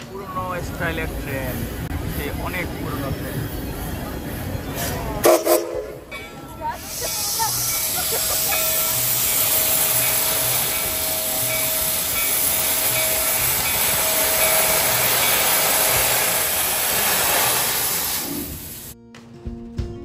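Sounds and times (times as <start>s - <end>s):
steam locomotive venting steam: 0.0s - 19.0s.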